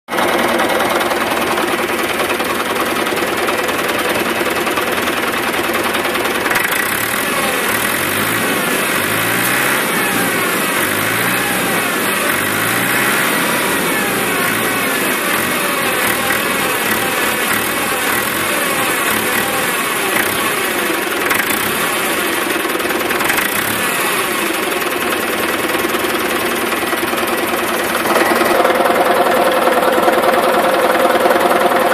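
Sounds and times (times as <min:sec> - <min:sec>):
tractor diesel engine idling: 0:00.1 - 0:31.9.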